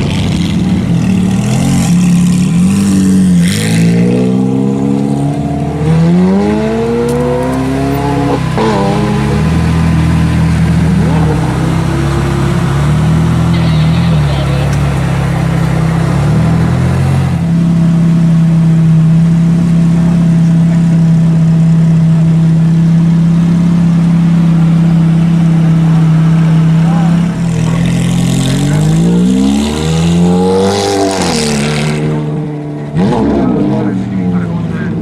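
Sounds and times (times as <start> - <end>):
sports car engine revving: 0.0 - 35.0.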